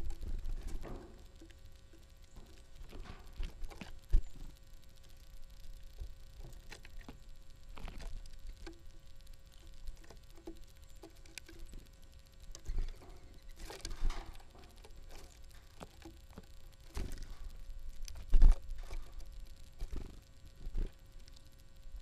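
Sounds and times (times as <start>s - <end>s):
rustling of seed: 0.0s - 22.0s.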